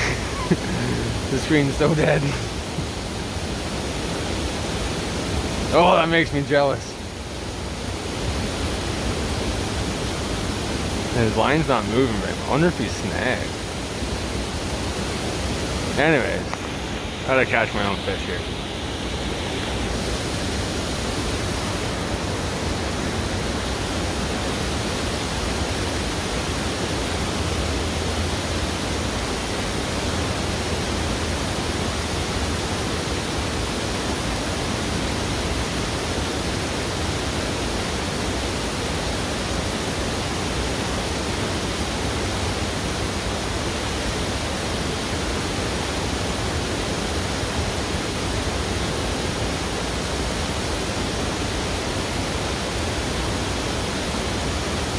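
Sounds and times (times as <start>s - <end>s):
river rushing: 0.0s - 54.9s.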